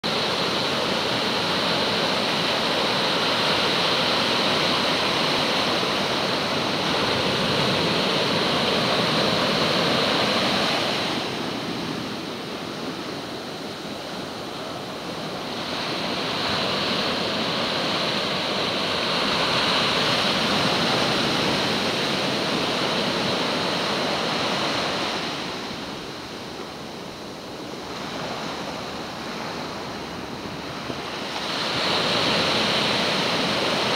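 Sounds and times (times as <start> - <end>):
ocean surf breaking: 0.0 - 33.9.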